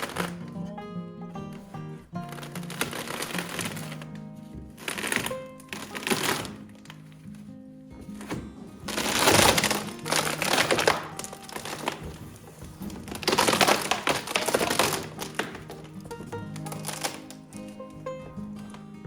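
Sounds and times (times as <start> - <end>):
music with sustained tones: 0.0 - 19.0.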